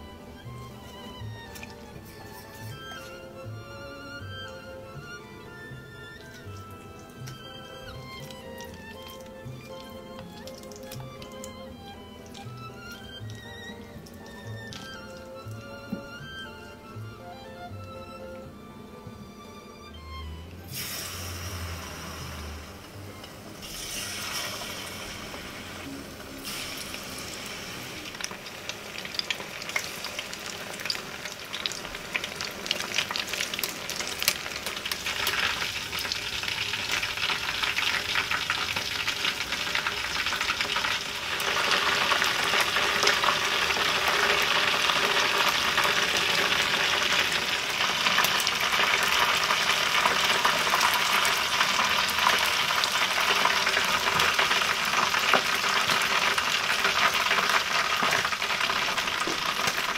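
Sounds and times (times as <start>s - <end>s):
chicken deep-frying in hot oil: 0.0s - 18.2s, 20.0s - 59.9s.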